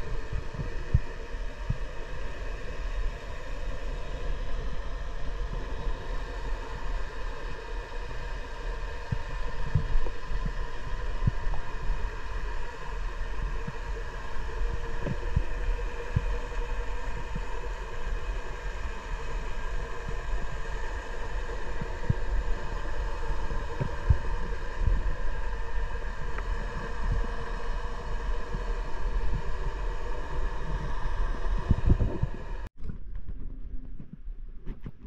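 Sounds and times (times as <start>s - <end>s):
mechanical hum: 0.0s - 35.0s.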